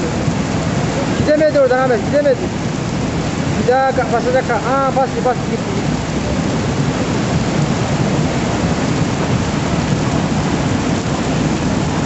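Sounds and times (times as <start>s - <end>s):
floodwater rushing: 0.0s - 12.0s
heavy rain: 0.0s - 12.0s.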